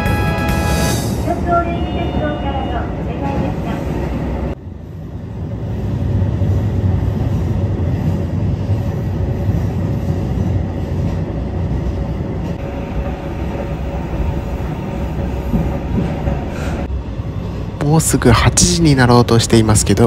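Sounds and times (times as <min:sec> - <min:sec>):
train wheels rumbling on rail: 0:01.2 - 0:20.0.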